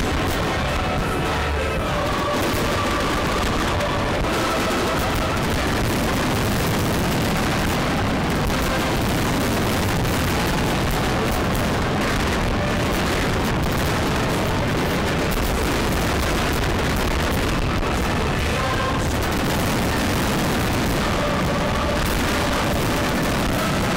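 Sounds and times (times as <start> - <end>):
fireworks booming and crackling: 0.0 - 23.9.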